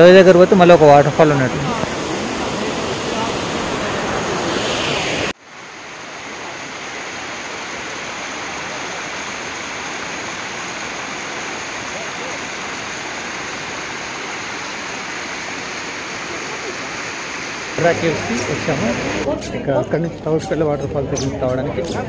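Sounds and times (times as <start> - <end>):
waterfall rushing over rocks: 0.0 - 19.3.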